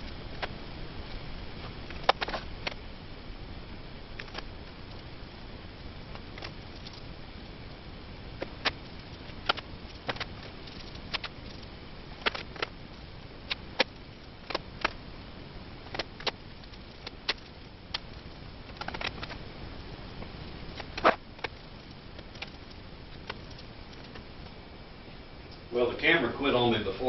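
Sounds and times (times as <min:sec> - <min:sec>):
steady low hiss: 0:00.0 - 0:27.0.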